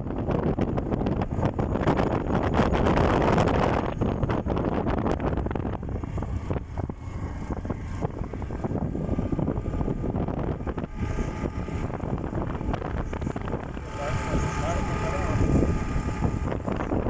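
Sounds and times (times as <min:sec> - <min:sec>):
motorbike engine running: 0:00.0 - 0:17.0
wind buffeting microphone: 0:00.0 - 0:17.0.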